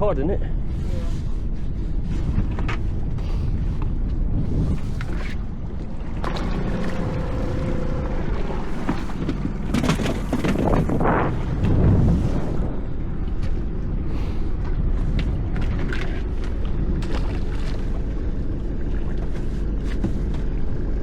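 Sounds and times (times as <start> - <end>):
boat engine low rumble: 0.0 - 21.0
wind on microphone: 0.0 - 21.0
rush of noise: 0.2 - 17.1.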